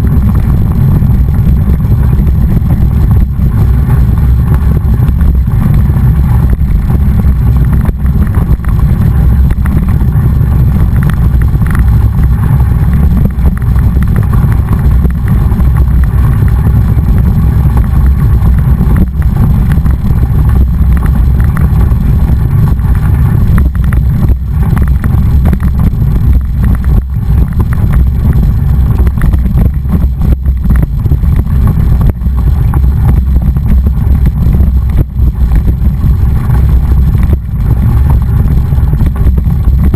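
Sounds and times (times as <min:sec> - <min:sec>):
mountain bike rumble: 0:00.0 - 0:39.9
wind buffeting microphone: 0:00.0 - 0:39.9.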